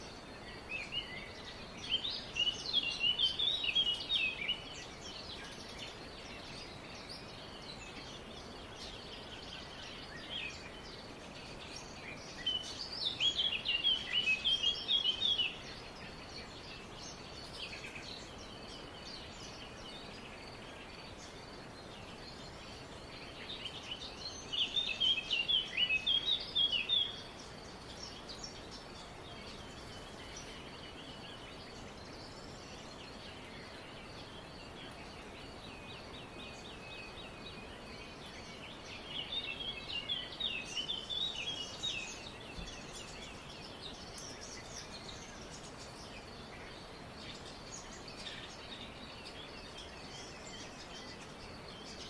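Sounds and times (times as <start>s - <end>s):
background hiss: 0.0s - 52.0s
songbirds chirping: 0.0s - 52.0s.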